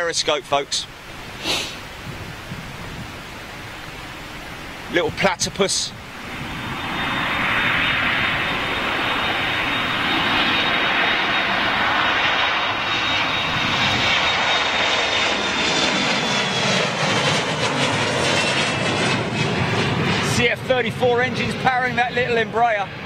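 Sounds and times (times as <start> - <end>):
jet engines at take-off: 0.0 - 23.0.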